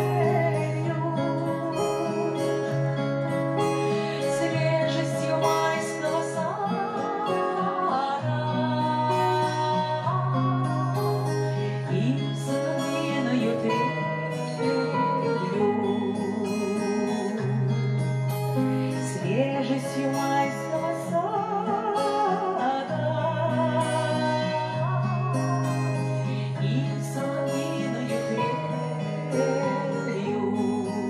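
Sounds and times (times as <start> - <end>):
acoustic guitar: 0.0 - 31.0
woman singing a lullaby: 0.0 - 31.0.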